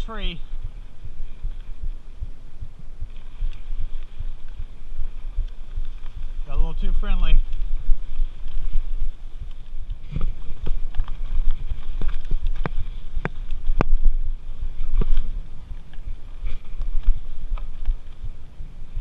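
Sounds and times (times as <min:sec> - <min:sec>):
rumble of wind and tyres: 0:00.0 - 0:19.0
bike rattling over bumps: 0:03.0 - 0:19.0.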